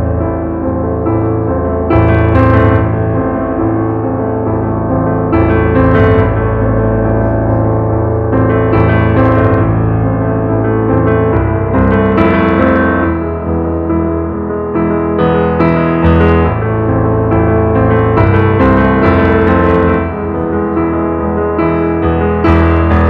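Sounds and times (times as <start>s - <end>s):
piano chords: 0.0s - 23.0s.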